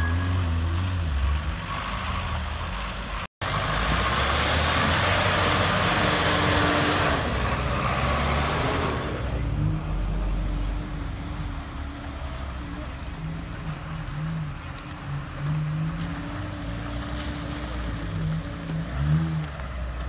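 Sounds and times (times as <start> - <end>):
water rushing around wheels: 0.0 - 20.0.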